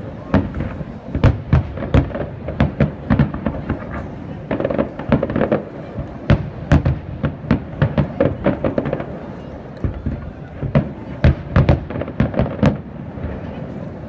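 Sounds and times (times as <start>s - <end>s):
firework bangs: 0.0s - 14.0s.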